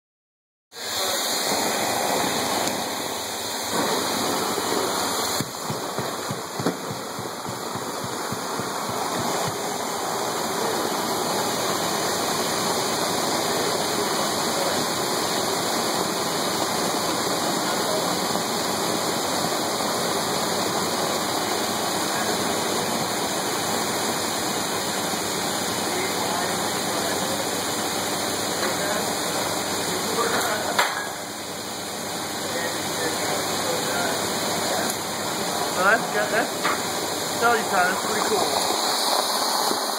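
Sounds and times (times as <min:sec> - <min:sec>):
industrial vacuum rushing air: 0:00.7 - 0:39.9.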